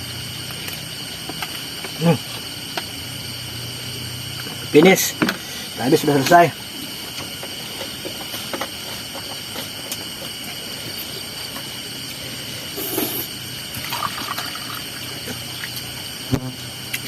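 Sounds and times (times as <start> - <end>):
night insects shrilling: 0.0 - 17.0.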